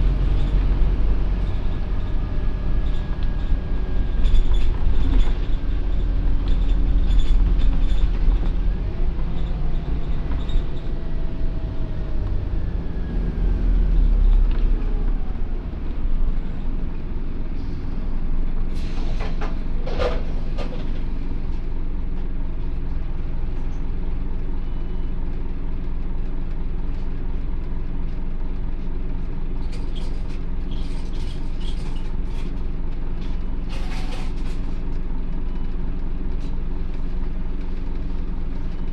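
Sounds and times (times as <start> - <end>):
bus diesel engine whining: 0.0 - 38.9.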